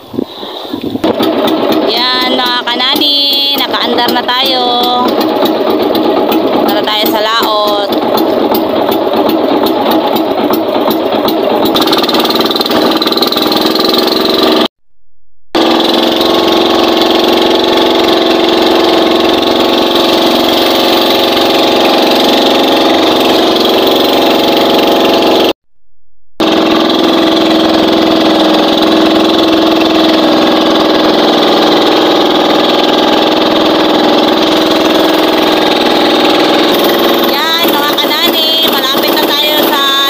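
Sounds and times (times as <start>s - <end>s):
boat engine droning: 0.0s - 14.7s, 15.6s - 25.6s, 26.4s - 40.0s.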